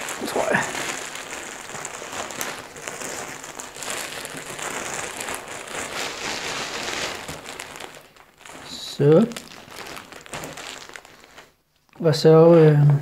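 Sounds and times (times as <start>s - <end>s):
straw pellets rustling: 0.0s - 11.6s
plastic bags crinkling: 0.0s - 12.1s.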